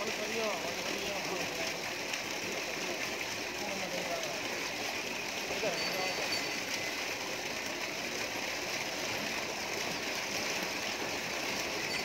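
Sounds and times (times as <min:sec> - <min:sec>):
water splashing and churning: 0:00.0 - 0:12.0.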